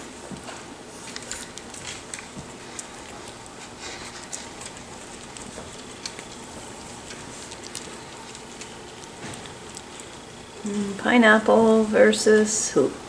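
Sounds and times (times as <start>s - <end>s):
puppies scuffling and rustling: 0.0s - 12.6s.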